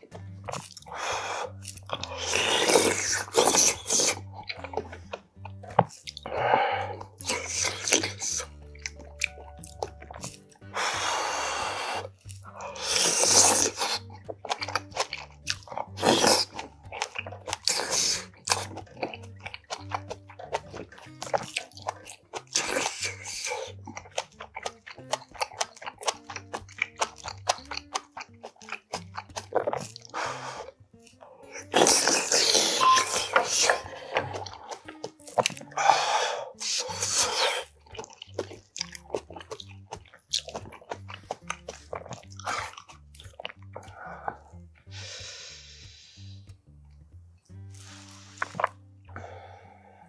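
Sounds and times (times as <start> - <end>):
wet chewing: 0.0 - 45.6, 46.4 - 50.0
mouth clicks: 0.0 - 46.6, 47.5 - 49.5
slurping: 0.0 - 46.6, 47.5 - 50.0
soft background music: 0.0 - 50.0.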